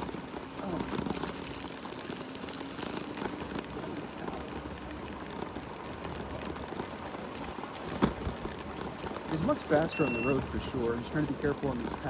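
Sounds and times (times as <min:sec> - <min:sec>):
scooter tyres on gritty path: 0:00.0 - 0:12.0.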